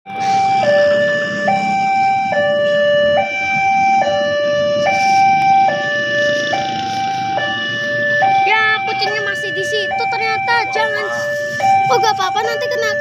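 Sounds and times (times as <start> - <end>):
level crossing two-tone alarm: 0.1 - 13.0.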